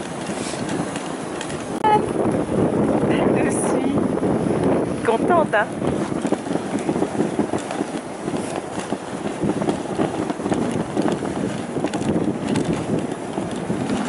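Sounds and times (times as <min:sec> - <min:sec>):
sled runners scraping on snow: 0:00.0 - 0:02.0, 0:02.6 - 0:14.0.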